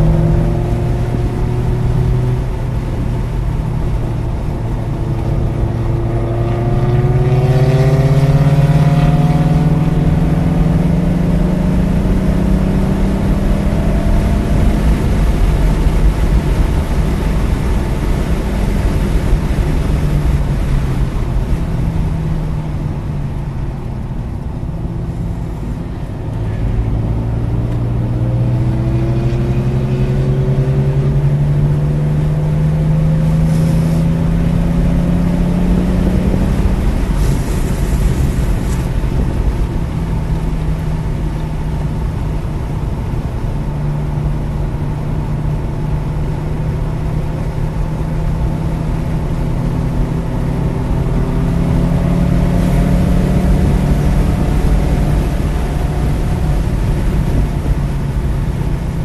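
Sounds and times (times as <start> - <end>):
car engine pulling from inside cabin: 0.0 - 59.0
road and wind noise: 0.0 - 59.0.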